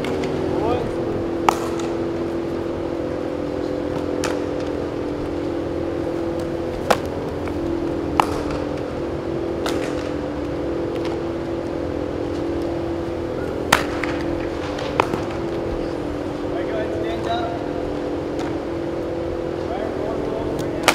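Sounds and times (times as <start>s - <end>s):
baseballs being hit and caught: 0.0s - 19.6s, 20.5s - 20.9s
drum fans humming: 0.0s - 20.9s.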